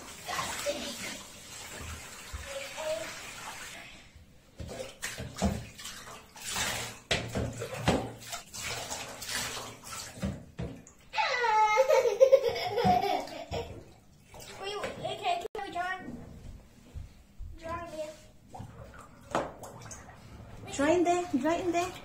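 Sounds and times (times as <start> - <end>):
bath water splashing and sloshing: 0.0 - 11.7, 12.4 - 22.0
tap water running: 0.0 - 11.8, 12.4 - 16.1, 17.6 - 22.0.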